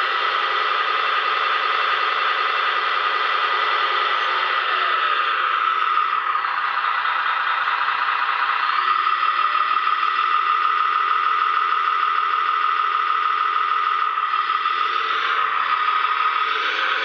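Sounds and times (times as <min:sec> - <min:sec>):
model truck motor whine: 0:00.0 - 0:17.0.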